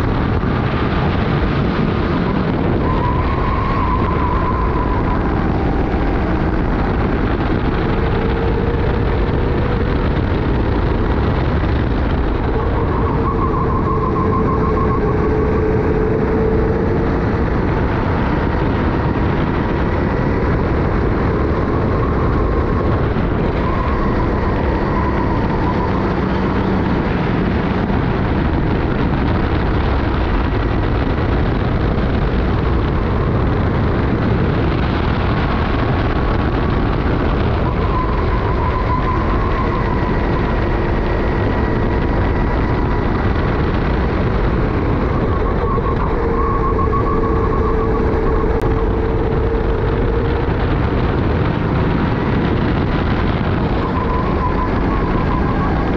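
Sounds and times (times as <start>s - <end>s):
go-kart engine racing: 0.0s - 55.9s
wind rushing on microphone: 0.0s - 55.9s.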